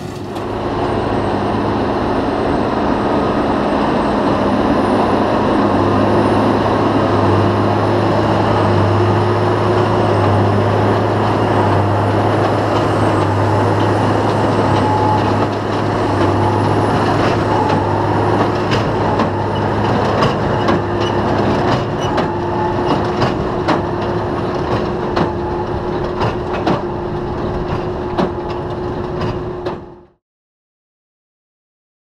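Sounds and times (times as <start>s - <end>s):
tractor and baler droning: 0.0s - 30.2s.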